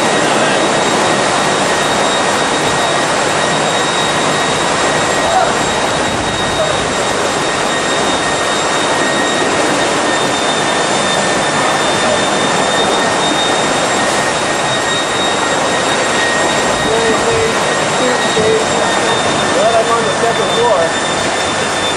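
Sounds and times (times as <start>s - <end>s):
floodwater rushing roar: 0.0s - 21.9s
thin high whine: 0.0s - 21.9s.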